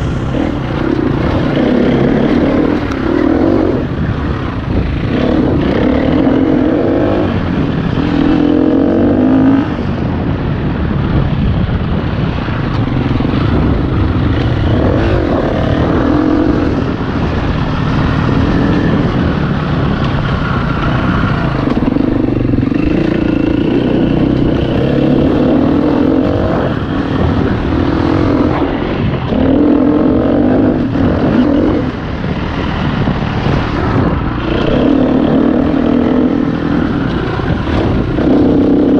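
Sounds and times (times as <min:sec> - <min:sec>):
dirt bike engine revving: 0:00.0 - 0:10.2, 0:13.0 - 0:38.9
wind rushing on microphone: 0:00.0 - 0:38.9.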